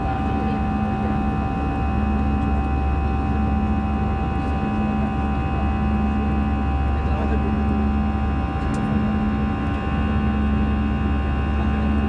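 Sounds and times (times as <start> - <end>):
jet engines rumbling in cabin: 0.0 - 12.0
low pulsing hum: 0.0 - 12.0.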